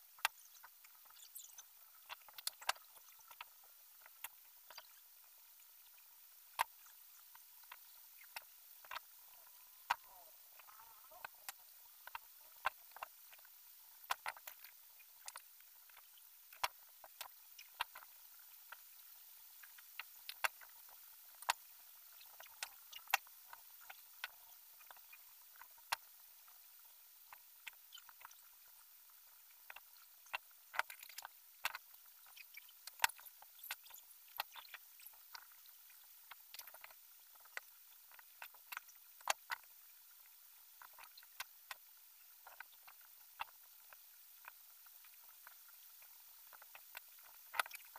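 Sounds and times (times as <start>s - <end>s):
faint hiss: 0.0s - 47.9s.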